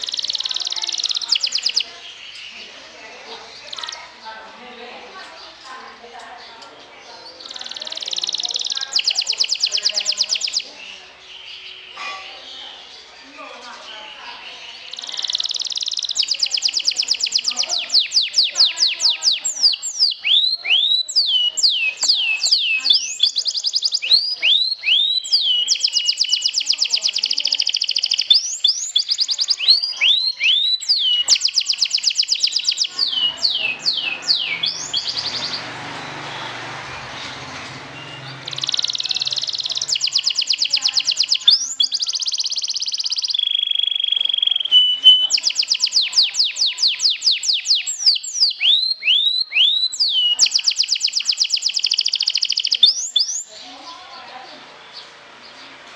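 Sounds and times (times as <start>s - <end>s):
canary singing trills: 0.0s - 55.8s.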